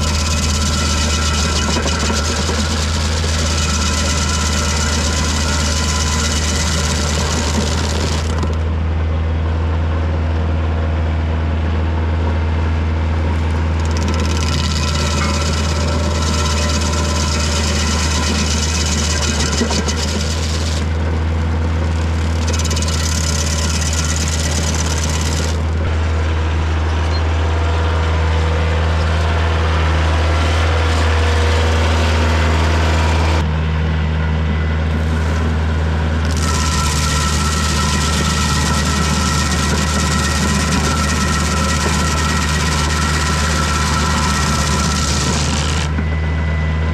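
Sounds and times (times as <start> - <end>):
stump grinder grinding wood: 0.0 - 8.8, 13.2 - 33.4, 34.9 - 46.2
diesel tractor engine running: 0.0 - 46.9.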